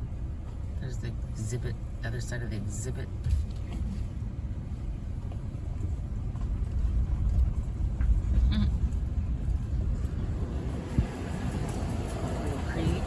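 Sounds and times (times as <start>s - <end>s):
car road rumble inside cabin: 0.0s - 13.0s.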